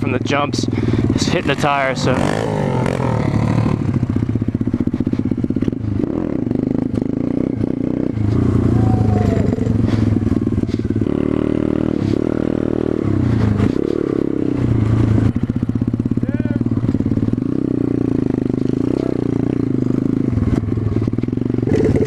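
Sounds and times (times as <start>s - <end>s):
bike rattling: 0.0s - 22.0s
motorbike engine revving: 0.0s - 22.0s.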